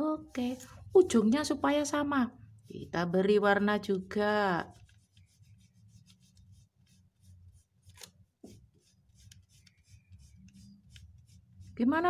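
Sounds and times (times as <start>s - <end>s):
crayon scratching on paper: 1.4s - 12.0s.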